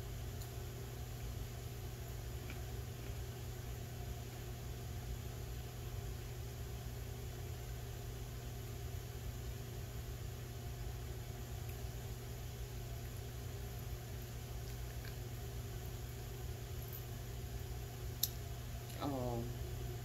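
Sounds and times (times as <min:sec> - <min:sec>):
air conditioning unit humming: 0:00.0 - 0:20.0.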